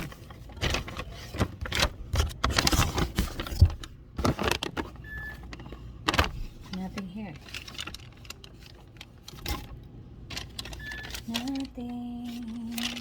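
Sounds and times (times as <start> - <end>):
objects clicking and rustling: 0.0 - 13.0.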